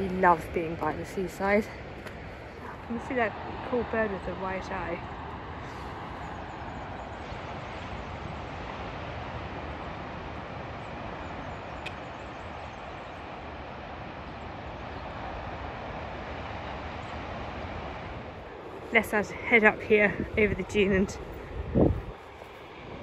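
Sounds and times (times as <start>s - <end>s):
surf on beach: 0.0s - 23.0s
wind: 0.0s - 23.0s.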